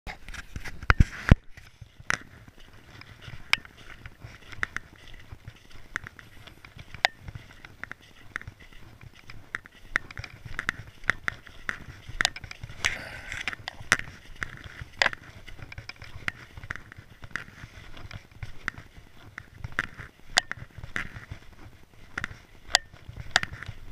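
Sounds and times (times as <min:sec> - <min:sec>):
crunching snow and slush: 0:00.2 - 0:23.9.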